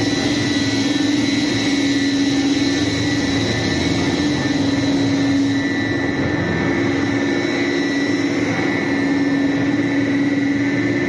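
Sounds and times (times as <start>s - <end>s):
high whine: 0.0s - 11.0s
low hum: 0.0s - 11.0s
machinery roar: 0.0s - 11.0s.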